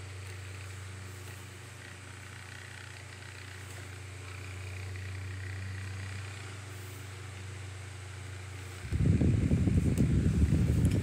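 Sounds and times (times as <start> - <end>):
table fan running: 0.0 - 11.0.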